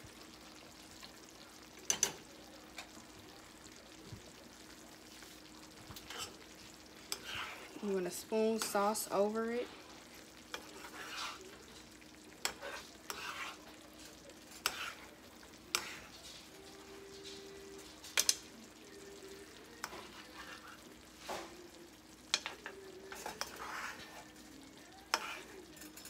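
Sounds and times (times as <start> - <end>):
sauce sizzling: 0.0 - 26.0
spoon scraping a skillet: 1.8 - 2.2, 5.1 - 26.0.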